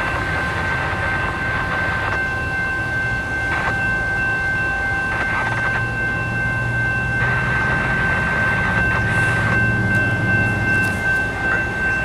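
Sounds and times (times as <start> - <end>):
high-pitched ringing: 0.0 - 12.0
train engine drone: 0.0 - 12.0.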